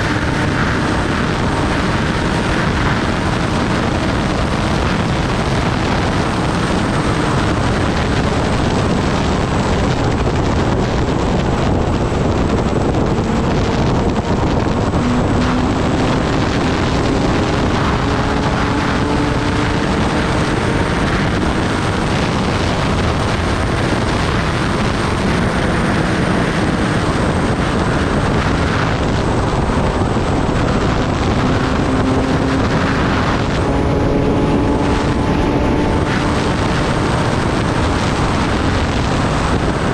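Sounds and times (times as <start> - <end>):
motorcycle engine rising in pitch: 0.0 - 39.9
wind rush over microphone: 0.0 - 39.9.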